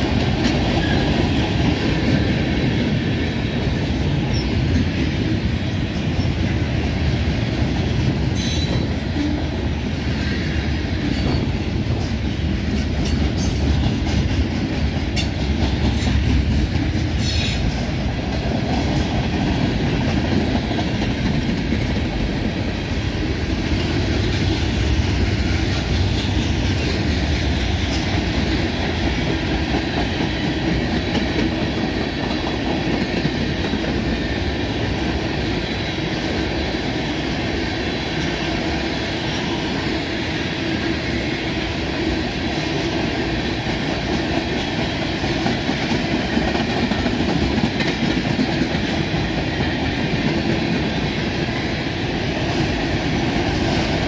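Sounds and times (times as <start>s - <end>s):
steel wheels clattering on rails: 0.0s - 54.0s.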